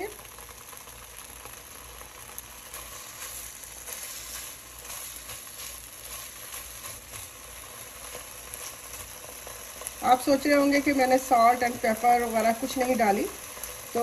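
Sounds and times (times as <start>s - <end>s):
meat sizzling in frying pan: 0.0s - 14.0s.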